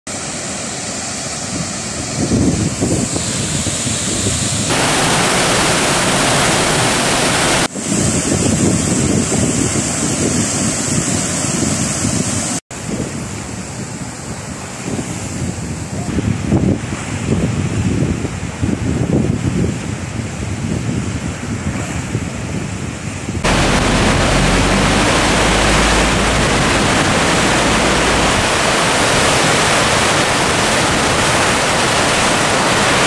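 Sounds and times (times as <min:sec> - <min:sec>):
water rushing from dam spillway: 0:00.1 - 0:33.0.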